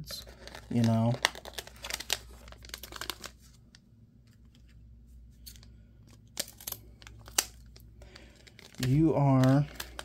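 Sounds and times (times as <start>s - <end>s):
cards being handled: 0.1s - 10.0s.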